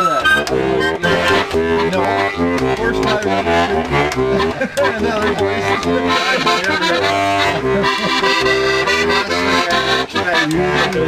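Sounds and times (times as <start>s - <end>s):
accordion playing: 0.0s - 11.0s.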